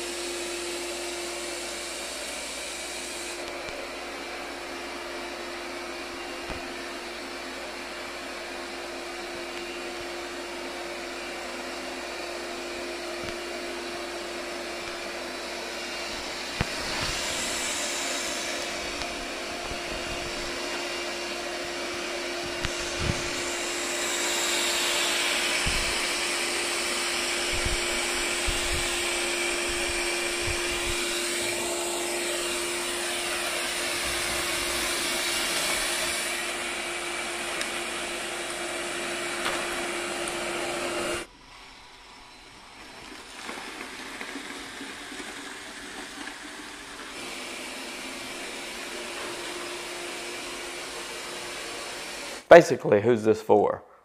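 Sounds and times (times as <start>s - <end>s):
robot vacuum fan whir: 0.0s - 52.5s.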